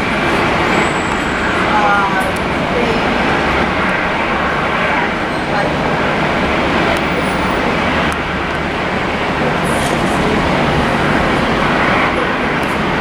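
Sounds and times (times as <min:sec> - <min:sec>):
jet engine noise: 0:00.0 - 0:13.0
wind on microphone: 0:00.0 - 0:13.0.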